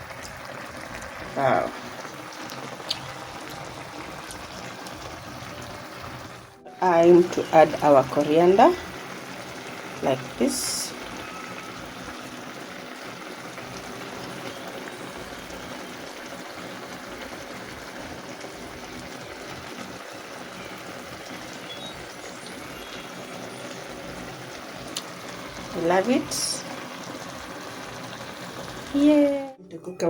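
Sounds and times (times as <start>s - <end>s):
sauce simmering in a pan: 0.0s - 29.4s.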